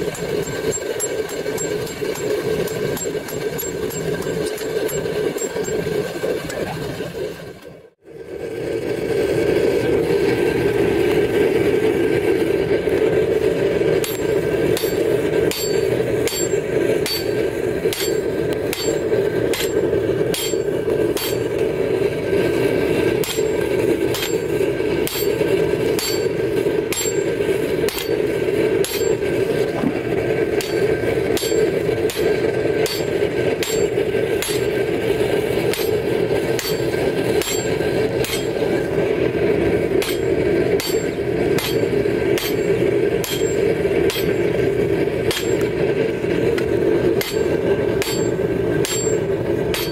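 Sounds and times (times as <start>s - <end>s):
hammer blows on hot steel: 0.0s - 6.0s, 8.4s - 49.9s
steady rushing noise: 0.0s - 7.2s, 8.0s - 49.9s.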